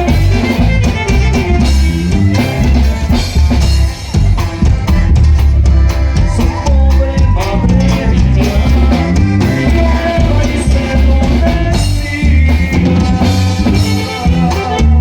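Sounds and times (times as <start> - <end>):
drum kit beat: 0.0 - 15.0
norteno band music: 0.0 - 15.0.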